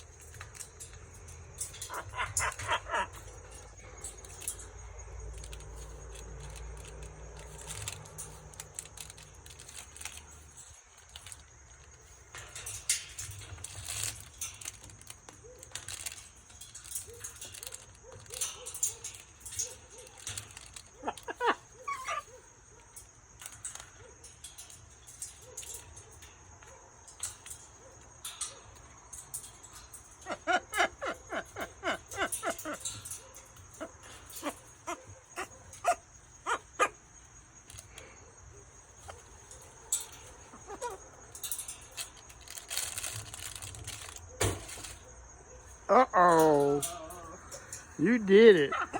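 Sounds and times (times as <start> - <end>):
toy clicks and rattles: 0.0 - 38.2, 39.0 - 45.1.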